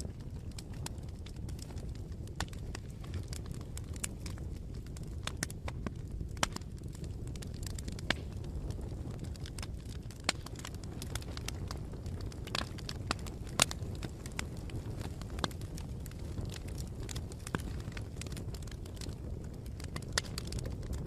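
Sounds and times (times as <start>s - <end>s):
bonfire flames rumbling: 0.0s - 21.0s
burning wood crackling and popping: 0.0s - 21.0s.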